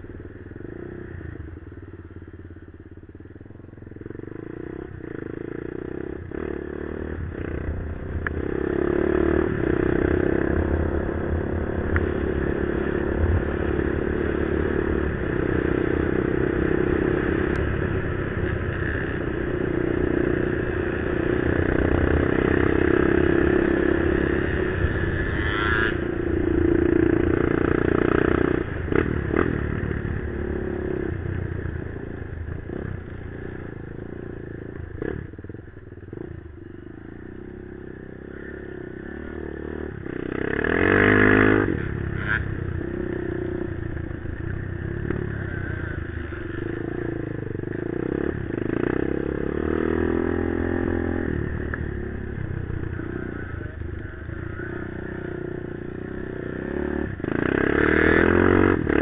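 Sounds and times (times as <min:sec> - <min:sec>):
off-road engine revving: 0:04.0 - 0:35.4, 0:37.1 - 0:59.0.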